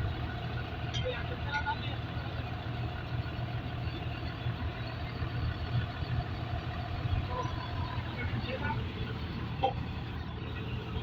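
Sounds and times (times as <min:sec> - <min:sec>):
heavy engine idling: 0:00.0 - 0:11.0.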